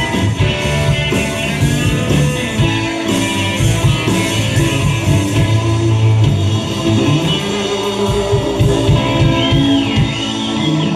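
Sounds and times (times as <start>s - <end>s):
electric guitar: 0.0s - 10.9s
rock band playing: 0.0s - 10.9s.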